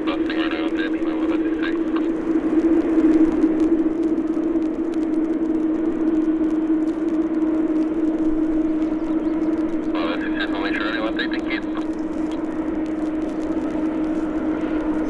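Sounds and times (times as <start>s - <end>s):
jet engines idling with whine: 0.0s - 15.0s.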